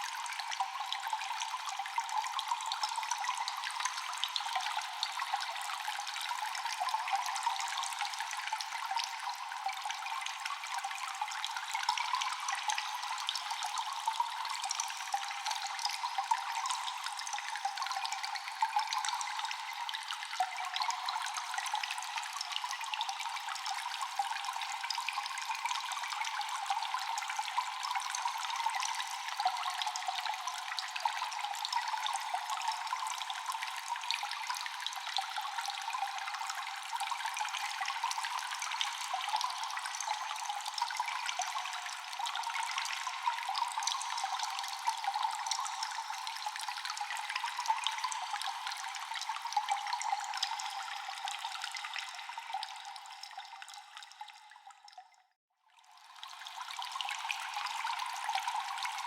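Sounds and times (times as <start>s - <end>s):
water dripping in a cave: 0.0s - 59.0s.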